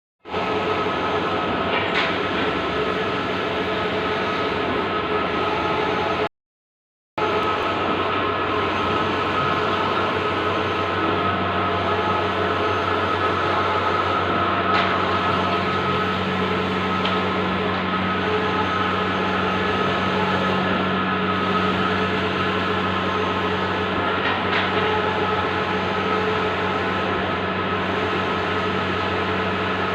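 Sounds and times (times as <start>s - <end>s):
printer mechanical whirr: 0.3s - 6.3s, 7.2s - 29.9s.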